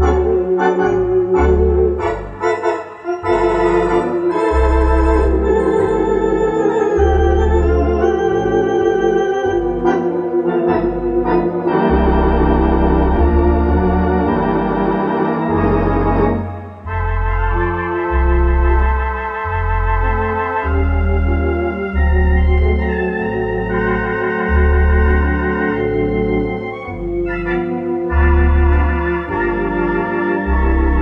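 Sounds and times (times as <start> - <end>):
electronic organ chords with vibrato: 0.0 - 31.0
organ pedal bass notes: 0.0 - 31.0.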